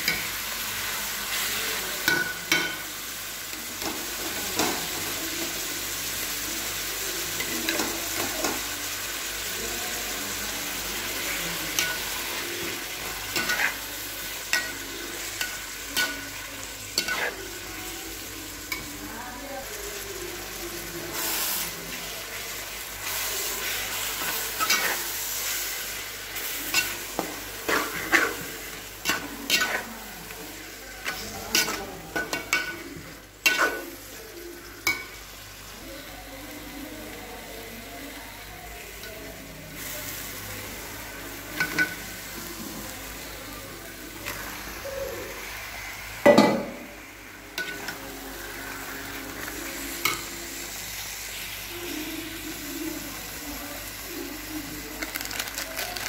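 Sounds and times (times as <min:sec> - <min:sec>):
curry sizzling in pot: 0:00.0 - 0:56.0.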